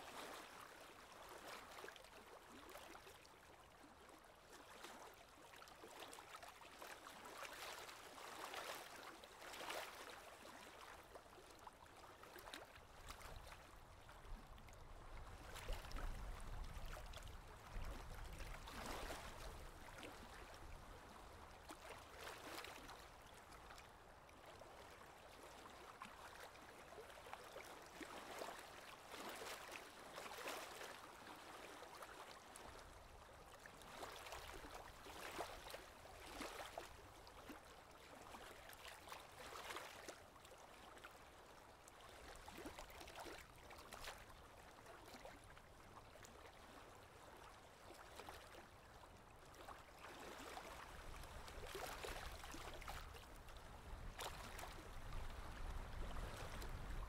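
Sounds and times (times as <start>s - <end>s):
gentle surf: 4.6s - 57.0s.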